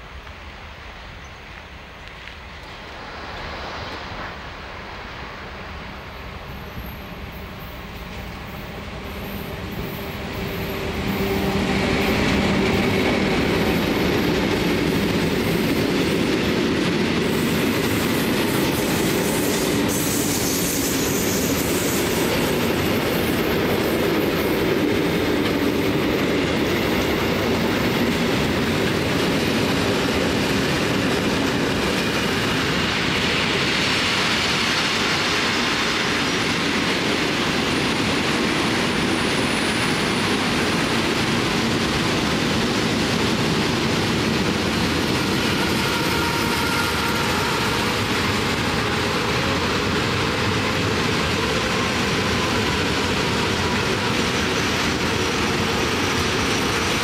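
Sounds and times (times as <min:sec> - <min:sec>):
train wheels clattering on rails: 0:06.5 - 0:57.0.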